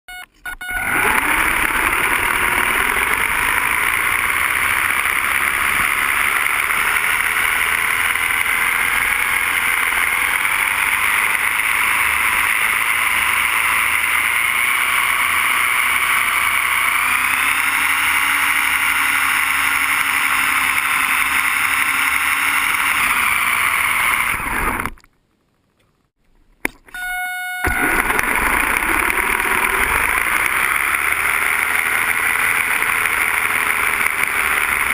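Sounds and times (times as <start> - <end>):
rc car motor whine: 0.2 - 25.0, 27.0 - 34.9.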